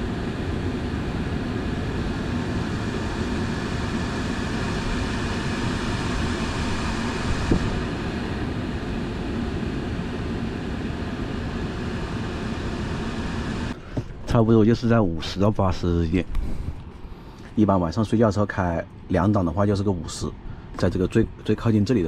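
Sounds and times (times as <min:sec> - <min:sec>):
air conditioner fan running: 0:00.0 - 0:22.0.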